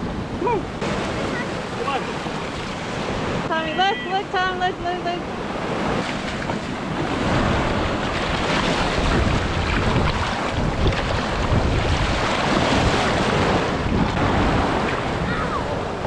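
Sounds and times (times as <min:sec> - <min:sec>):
ocean surf on beach: 0:00.0 - 0:16.0
wind buffeting microphone: 0:00.0 - 0:16.0.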